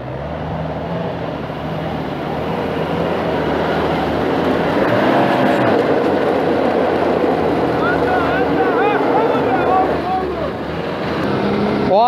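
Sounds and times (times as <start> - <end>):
noisy rush: 0.0 - 12.0
vehicle engine running hard: 0.0 - 12.0.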